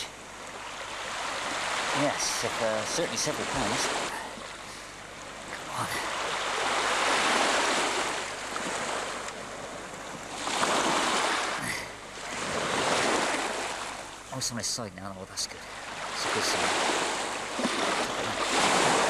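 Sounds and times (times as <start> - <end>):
small waves washing on rocky shore: 0.5 - 14.2, 15.6 - 19.0.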